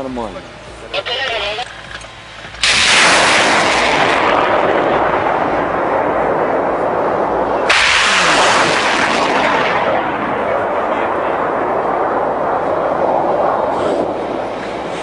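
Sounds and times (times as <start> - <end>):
rockets rushing roar: 0.8 - 15.0
rocket launch blast: 2.6 - 15.0.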